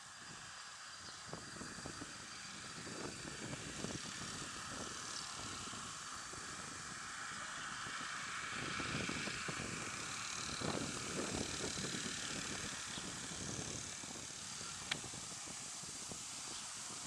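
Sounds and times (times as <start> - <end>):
distant outboard motor drone: 0.0 - 17.0.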